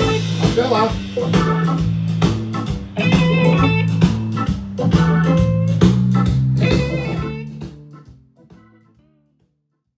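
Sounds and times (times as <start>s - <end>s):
guitar-led band music: 0.0s - 9.2s.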